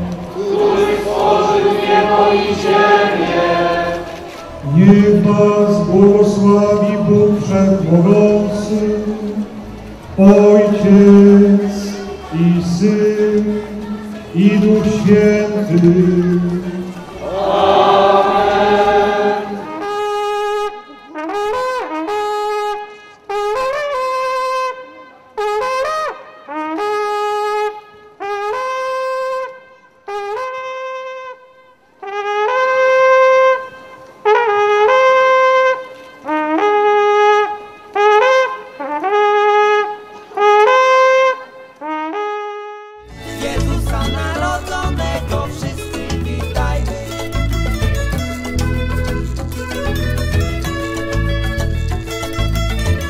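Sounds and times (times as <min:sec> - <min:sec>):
long wooden horn notes: 0:00.0 - 0:44.4.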